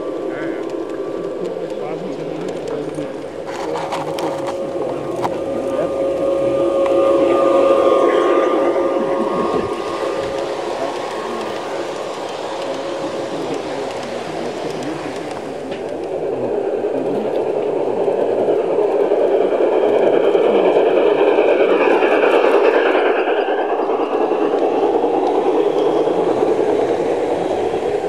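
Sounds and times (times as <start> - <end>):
train wheels rumbling on rails: 0.0 - 28.0
whine sliding in pitch: 0.0 - 28.0.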